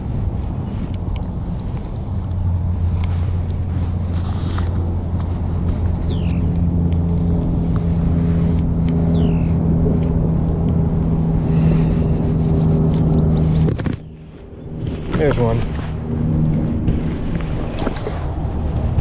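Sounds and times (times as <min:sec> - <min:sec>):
heavy low rumble: 0:00.0 - 0:19.0
low motor hum: 0:00.0 - 0:19.0.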